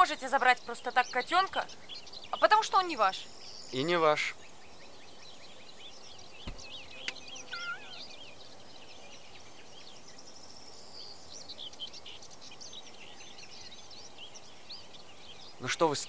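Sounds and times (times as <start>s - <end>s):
small birds chirping and singing: 0.0s - 16.0s
steady outdoor hiss: 0.0s - 16.0s.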